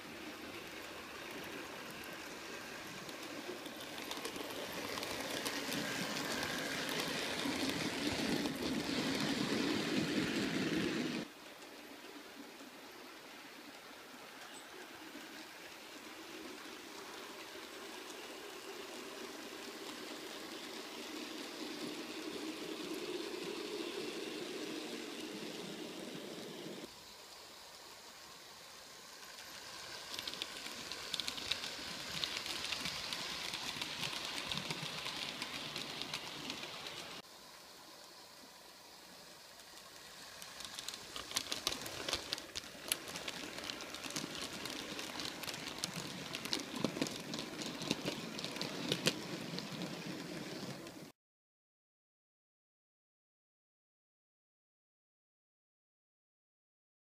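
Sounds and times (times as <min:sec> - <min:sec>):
small wheels clicking over rail joints: 0:00.0 - 0:26.9, 0:28.4 - 0:37.2, 0:38.9 - 0:51.1
model train motor hum: 0:00.0 - 0:51.1.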